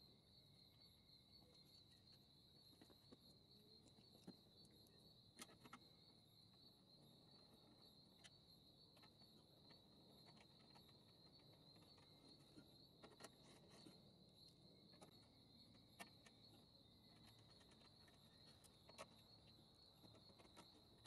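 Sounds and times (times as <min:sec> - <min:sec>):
crickets trilling faintly: 0:00.0 - 0:21.0.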